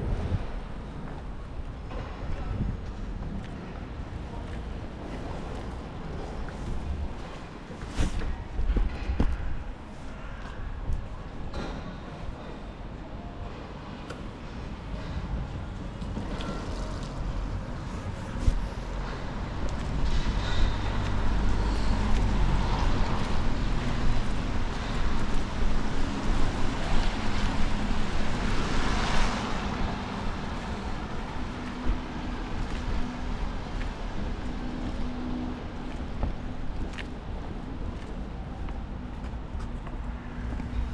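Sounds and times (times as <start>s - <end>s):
car engines rumbling: 0.0s - 40.9s.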